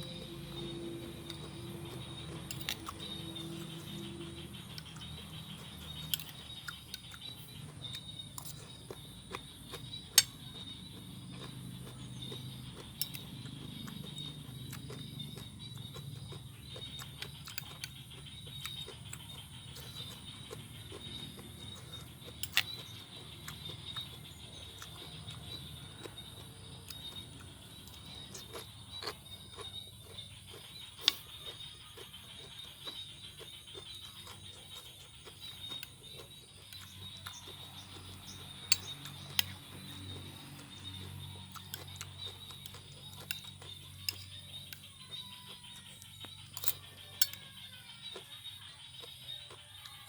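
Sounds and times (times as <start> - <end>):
chewing and crunching salad: 0.0 - 50.0
steady background hum: 0.0 - 50.0.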